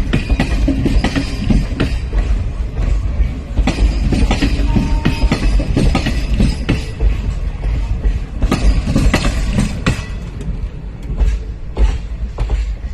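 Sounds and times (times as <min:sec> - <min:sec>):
heavy train rumble: 0:00.0 - 0:12.9
train wheels clattering over rails: 0:00.0 - 0:12.9.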